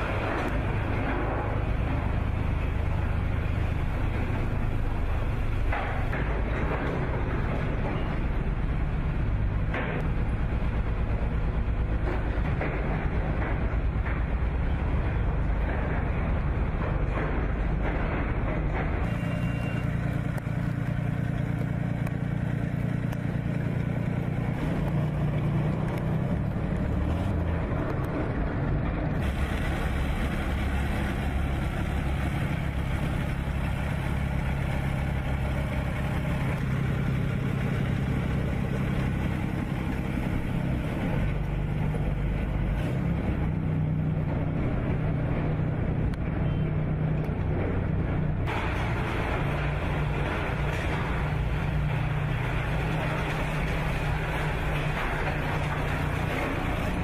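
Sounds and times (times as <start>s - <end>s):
tracked vehicle diesel engine: 0.0s - 57.0s.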